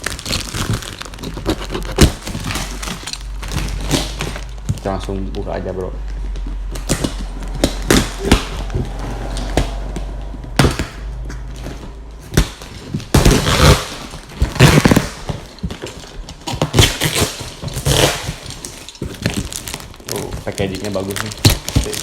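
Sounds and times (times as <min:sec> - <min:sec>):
cardboard packaging knocks and clatter: 0:00.0 - 0:22.0
cardboard tearing and scraping: 0:00.0 - 0:22.0.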